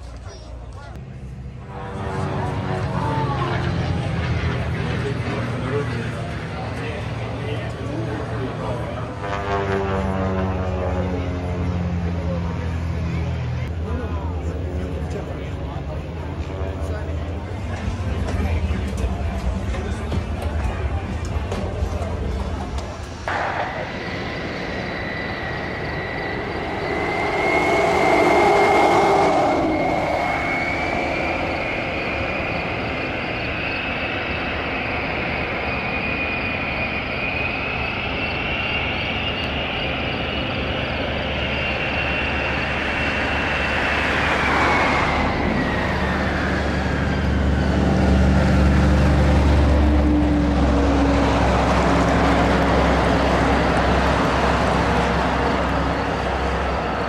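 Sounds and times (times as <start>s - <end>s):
deep engine rumble: 0.0s - 57.0s
jet engines whining: 0.0s - 57.0s.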